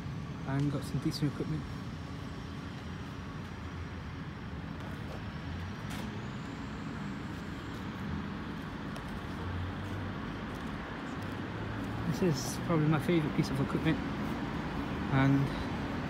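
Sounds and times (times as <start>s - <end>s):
distant road traffic rumble: 0.0s - 16.0s.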